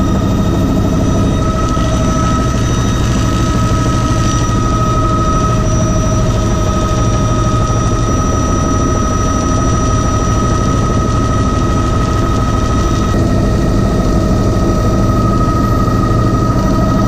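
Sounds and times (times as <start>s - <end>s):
helicopter engine whine: 0.0s - 17.0s
rotor low rumble: 0.0s - 17.0s.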